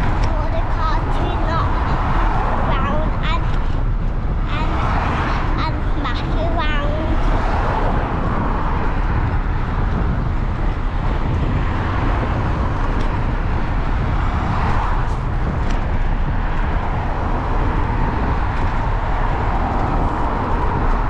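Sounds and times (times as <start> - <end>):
bike tyre noise: 0.0 - 21.0
wind rumble on microphone: 0.0 - 21.0.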